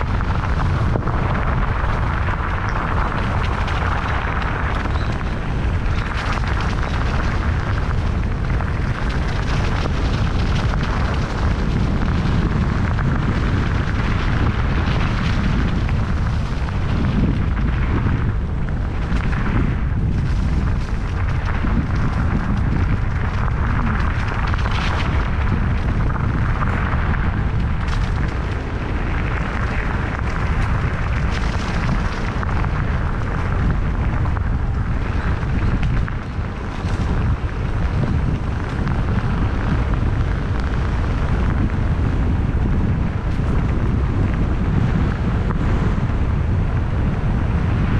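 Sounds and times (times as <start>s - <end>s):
bike tyres rolling: 0.0s - 47.9s
wind buffeting microphone: 0.0s - 47.9s.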